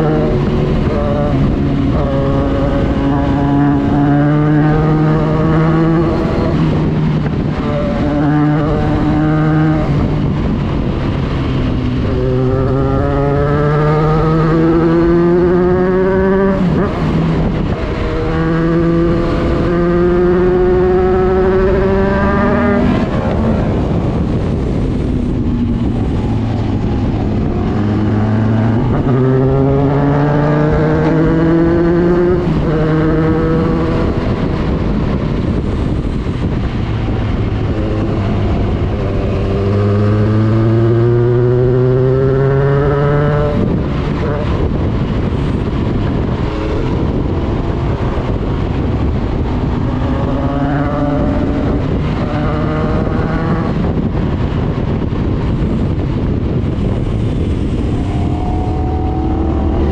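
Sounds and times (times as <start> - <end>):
motorcycle engine accelerating: 0.0 - 59.9
wind rushing: 0.0 - 59.9.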